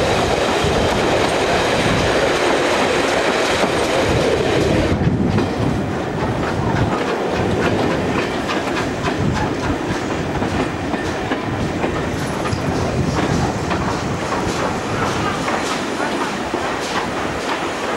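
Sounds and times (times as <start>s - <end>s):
train wheels rumbling: 0.0s - 17.9s.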